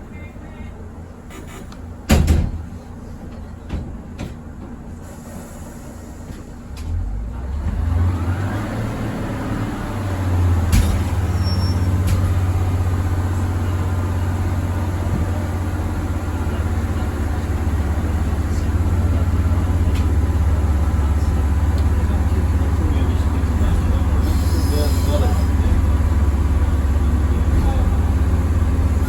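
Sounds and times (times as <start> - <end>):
diesel railway engine drone: 0.0 - 29.0.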